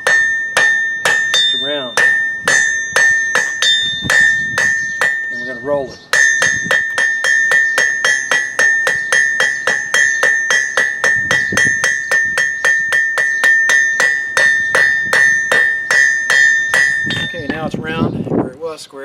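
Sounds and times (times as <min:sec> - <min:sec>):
anvil ringing: 0:00.0 - 0:17.7
hammer blows on hot steel: 0:00.0 - 0:17.9.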